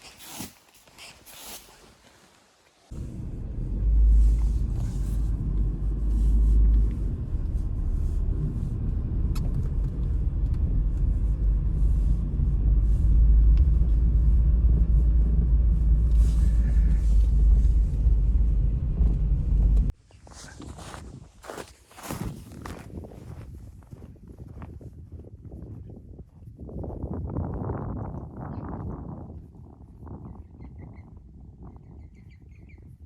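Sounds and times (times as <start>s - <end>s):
strong wind rumbling: 2.9s - 19.9s, 22.1s - 33.0s.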